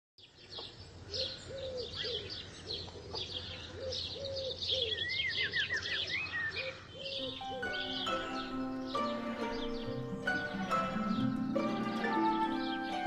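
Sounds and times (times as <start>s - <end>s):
small birds chirping: 0.2s - 13.0s
low cooing bird call: 1.0s - 13.0s.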